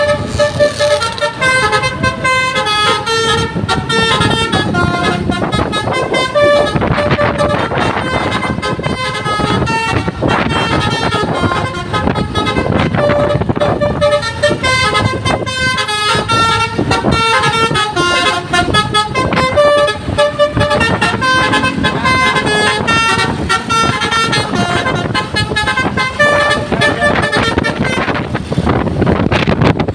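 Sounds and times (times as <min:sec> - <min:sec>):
multi-tone bus air horn tune: 0:00.0 - 0:29.9
steady vehicle noise: 0:00.0 - 0:29.9.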